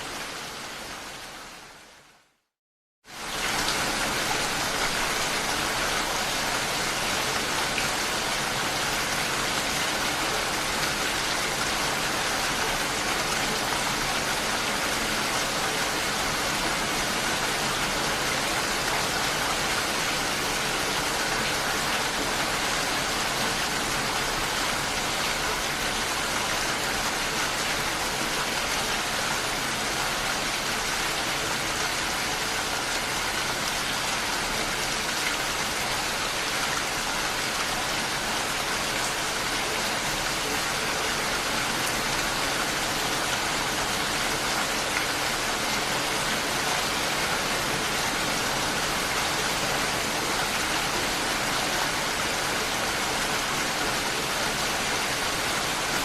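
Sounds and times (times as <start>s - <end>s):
steady rain hiss: 3.1s - 56.0s.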